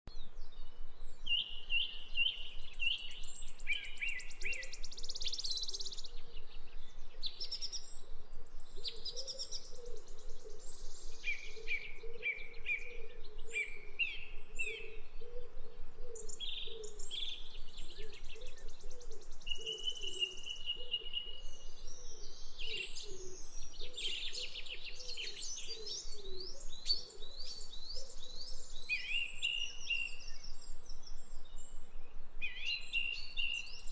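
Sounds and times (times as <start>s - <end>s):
birds singing and chirping: 0.1s - 33.9s.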